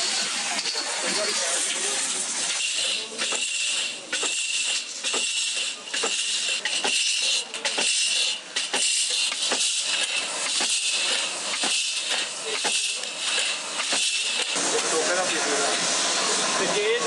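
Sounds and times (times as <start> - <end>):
steady loud hiss: 0.0 - 17.0.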